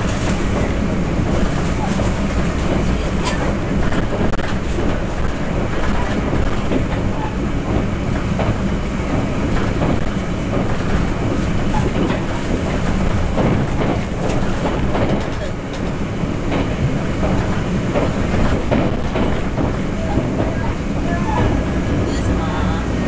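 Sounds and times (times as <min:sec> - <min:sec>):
wheels clicking over rail joints: 0:00.0 - 0:22.0
train wheels rumbling on rail: 0:00.0 - 0:23.0.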